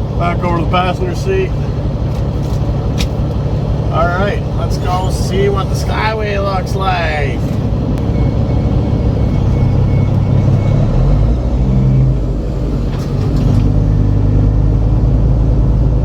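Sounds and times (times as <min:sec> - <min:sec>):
road noise: 0:00.0 - 0:16.0
truck engine rumble: 0:00.0 - 0:16.0.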